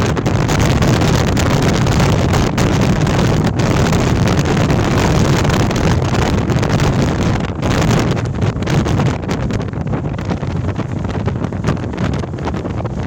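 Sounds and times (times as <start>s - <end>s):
storm wind blowing across microphone: 0.0s - 13.0s.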